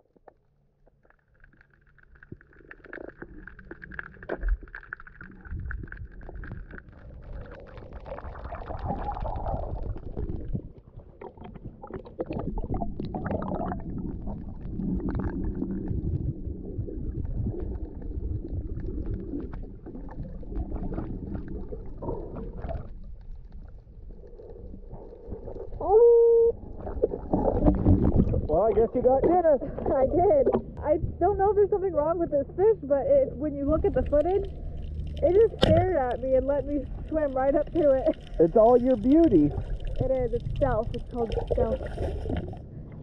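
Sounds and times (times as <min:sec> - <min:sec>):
crackling clicks underwater: 0:00.0 - 0:25.8, 0:26.7 - 0:30.9, 0:33.7 - 0:43.0
underwater rumble of moving water: 0:00.0 - 0:43.0.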